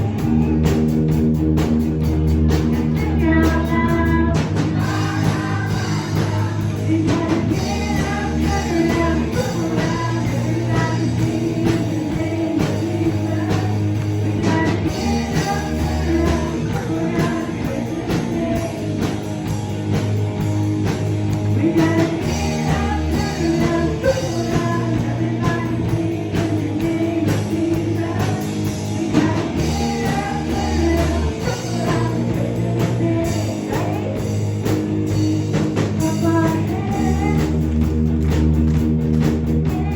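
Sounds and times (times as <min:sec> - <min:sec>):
band playing worship song: 0:00.0 - 0:39.9.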